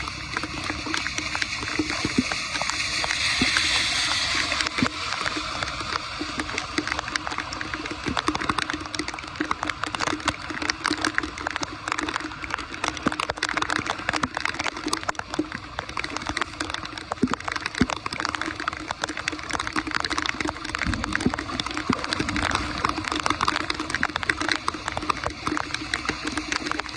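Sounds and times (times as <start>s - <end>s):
floodwater running and gurgling: 0.0s - 26.9s.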